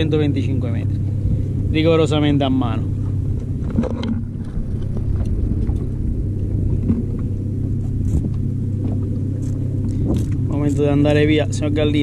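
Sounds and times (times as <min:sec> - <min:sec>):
outboard engine idling: 0:00.0 - 0:12.0.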